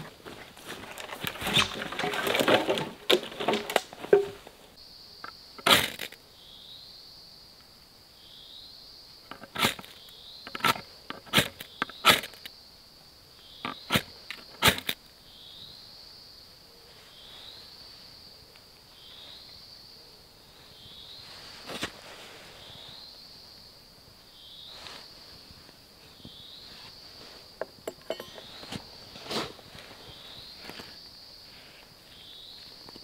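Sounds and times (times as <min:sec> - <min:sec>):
high insect drone: 0:04.8 - 0:21.6, 0:22.5 - 0:33.0.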